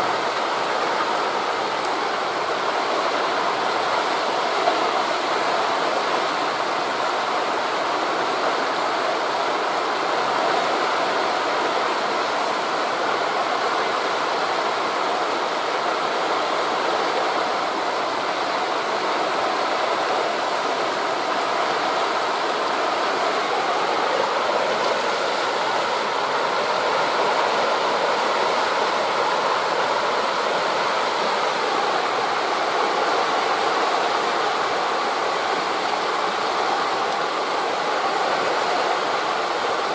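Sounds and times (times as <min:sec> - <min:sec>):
sea surf on beach: 0:00.0 - 0:39.9
wind through leaves: 0:00.0 - 0:39.9.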